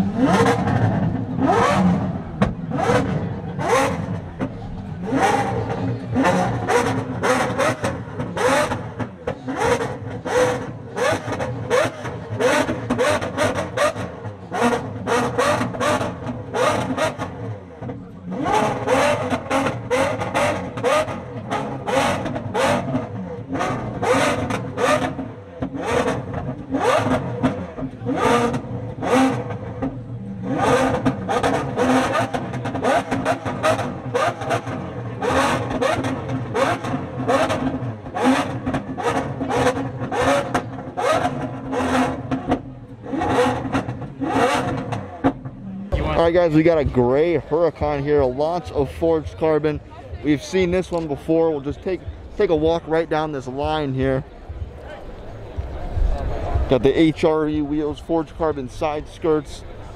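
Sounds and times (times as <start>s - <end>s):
sports car engine revving: 0.0s - 59.9s.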